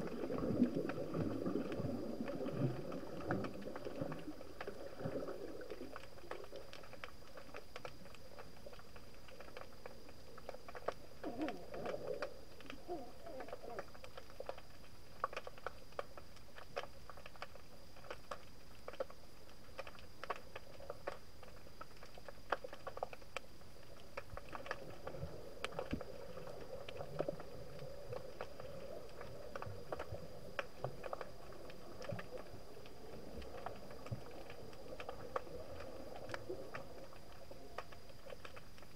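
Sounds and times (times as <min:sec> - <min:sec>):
faint steady hiss: 0:00.0 - 0:38.9
underwater clicks and crackles: 0:00.0 - 0:38.9
water gurgling: 0:00.0 - 0:38.9.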